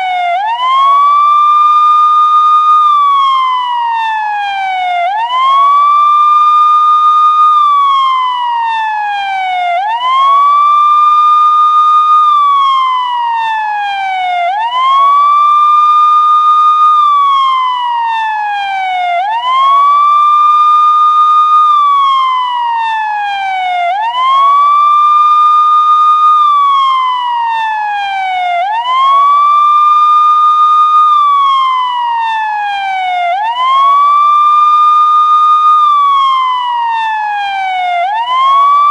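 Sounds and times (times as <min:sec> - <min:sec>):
police car siren wailing: 0:00.0 - 0:38.9.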